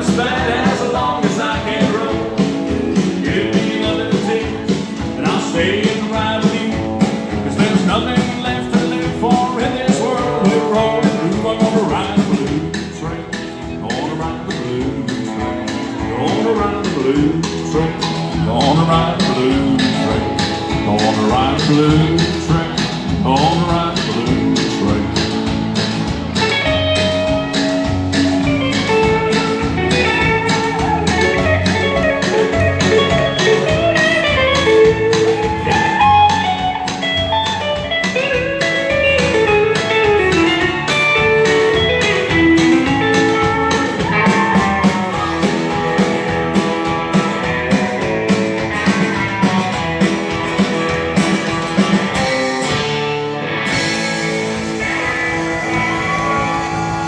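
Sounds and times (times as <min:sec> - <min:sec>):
country band instrumental: 0:00.0 - 0:57.0
guitar lead melody: 0:00.0 - 0:57.0.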